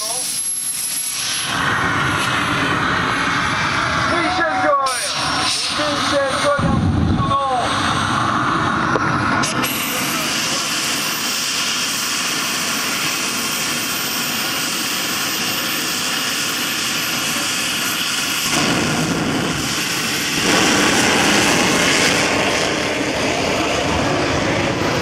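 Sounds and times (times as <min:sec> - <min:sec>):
gas turbine high whine: 0:00.0 - 0:25.0
loud rushing exhaust: 0:00.0 - 0:25.0.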